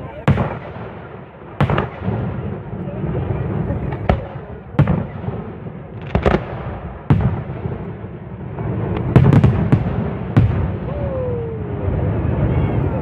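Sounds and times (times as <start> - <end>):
fireworks bangs: 0.0 - 13.0
low rumble of fireworks display: 0.0 - 13.0.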